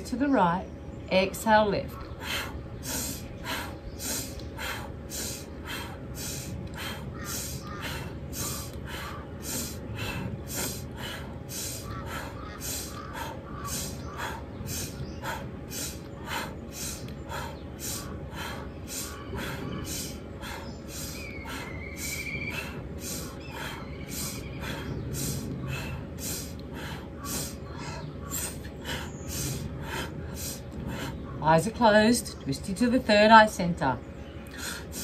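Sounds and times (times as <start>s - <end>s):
woman breathing rapidly: 2.0s - 31.4s, 34.4s - 35.0s.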